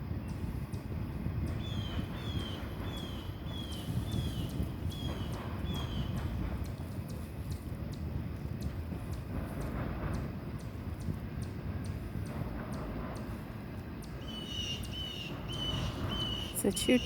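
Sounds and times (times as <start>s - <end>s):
distant train rumble: 0.0s - 17.0s.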